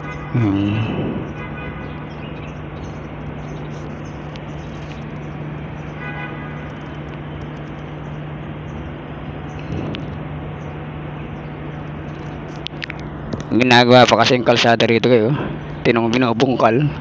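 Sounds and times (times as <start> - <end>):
low machine hum: 0.0 - 17.0
traffic: 0.0 - 17.0.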